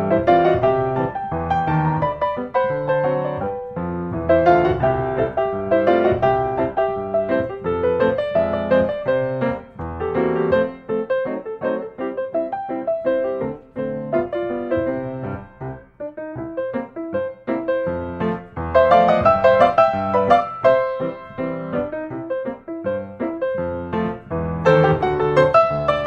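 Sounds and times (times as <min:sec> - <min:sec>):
solo piano melody: 0:00.0 - 0:26.0.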